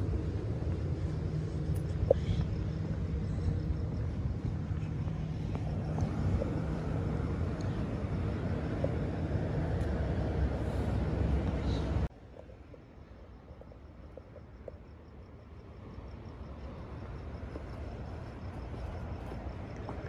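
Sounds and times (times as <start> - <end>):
train equipment humming: 0.0 - 20.0.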